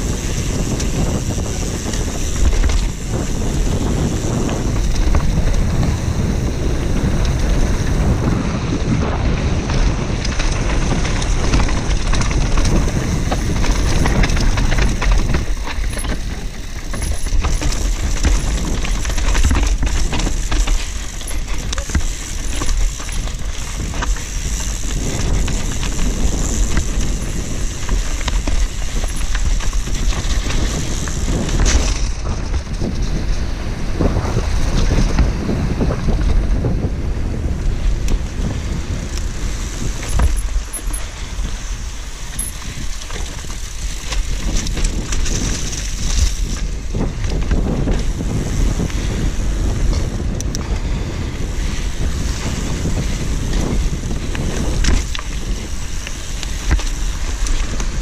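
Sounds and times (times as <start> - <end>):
bike rattling over bumps: 0.0 - 58.0
bike tyre rumble on dirt: 0.0 - 58.0
wind buffeting microphone: 0.0 - 58.0.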